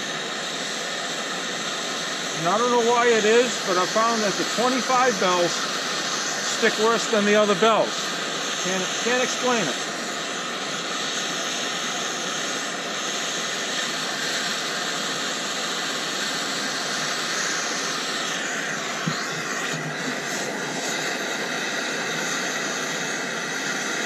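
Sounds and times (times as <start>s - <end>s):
gas torch hissing: 0.0s - 24.0s.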